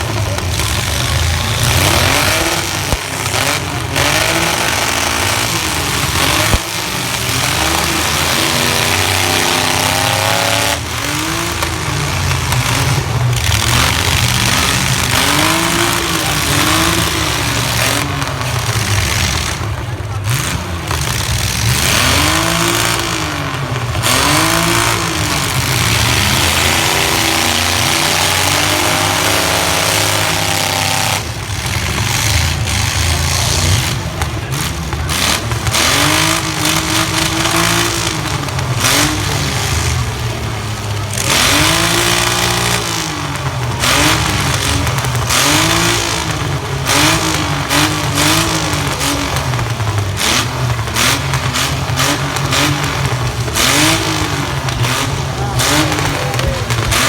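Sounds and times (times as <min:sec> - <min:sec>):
bangs of trucks colliding: 0:00.0 - 0:57.0
truck engines revving hard: 0:00.0 - 0:57.0.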